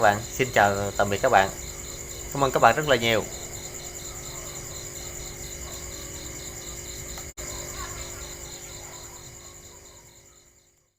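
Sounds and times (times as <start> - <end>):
crickets chirping: 0.0 - 10.9.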